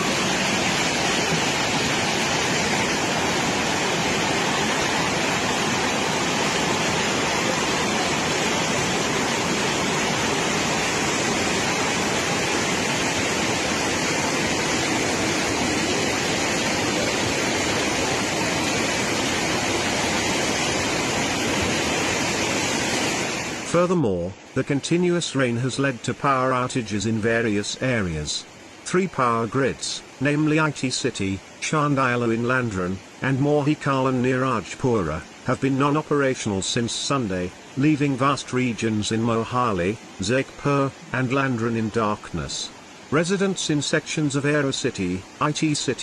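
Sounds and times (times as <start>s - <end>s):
fast-flowing water rushing: 0.0s - 46.0s.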